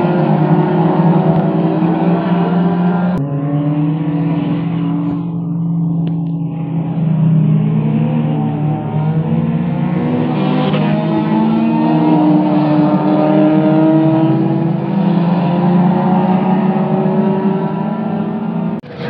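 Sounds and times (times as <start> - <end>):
car engines accelerating: 0.0 - 19.0.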